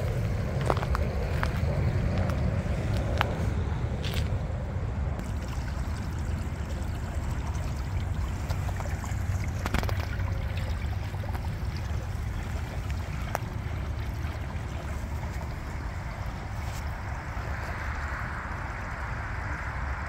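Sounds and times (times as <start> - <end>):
water trickling through pools: 0.0 - 20.0
wind rumble on microphone: 0.0 - 20.0.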